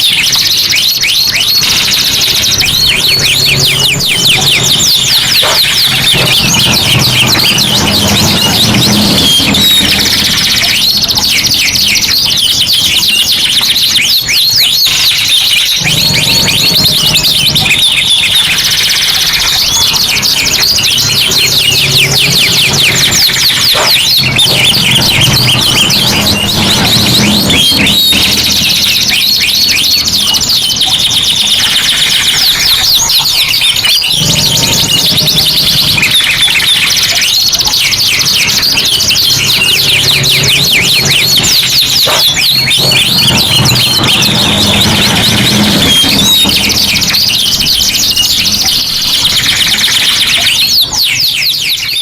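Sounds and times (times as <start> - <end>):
canaries singing trills: 0.0 - 52.0.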